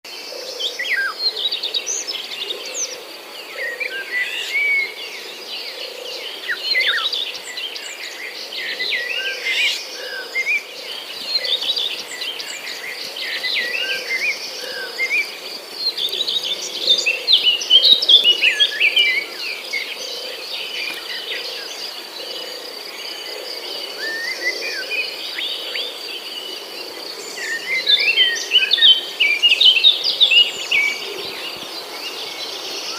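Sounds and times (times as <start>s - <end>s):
high insect drone: 0.1s - 32.9s
birds chirping and calling: 0.3s - 32.9s.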